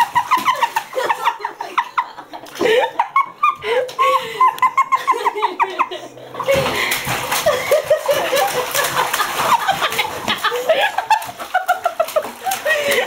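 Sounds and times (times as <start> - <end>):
baby splashing bathwater: 0.0 - 4.1, 4.7 - 13.0
laughter: 0.0 - 13.0.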